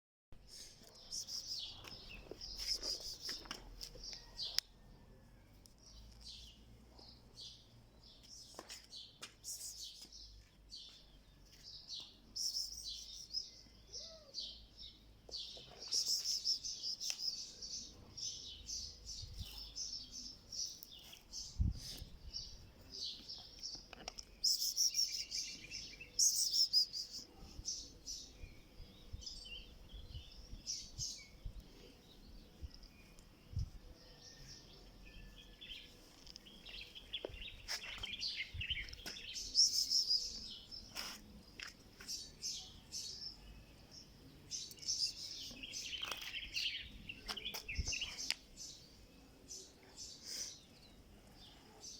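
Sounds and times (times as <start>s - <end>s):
small birds chirping: 0.4s - 4.8s, 5.5s - 51.9s.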